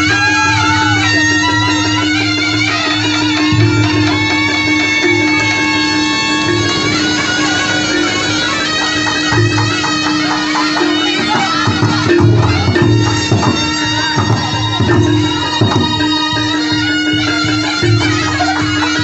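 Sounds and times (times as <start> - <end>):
drum strokes: 0.0 - 19.0
held drone: 0.0 - 19.0
shawm playing a melody: 0.0 - 19.0.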